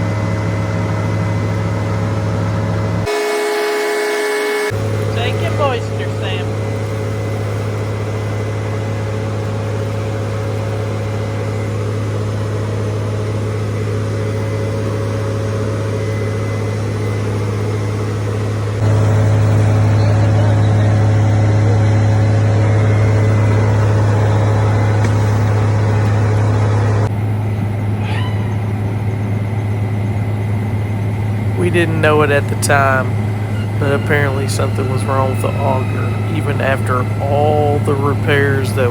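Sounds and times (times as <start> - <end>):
combine engine droning: 0.0 - 38.9.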